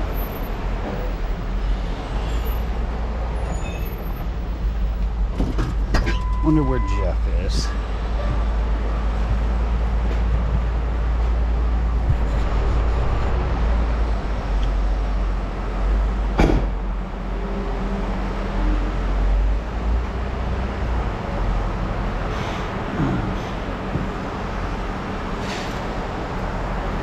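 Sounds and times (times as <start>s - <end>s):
truck road rumble: 0.0s - 27.0s.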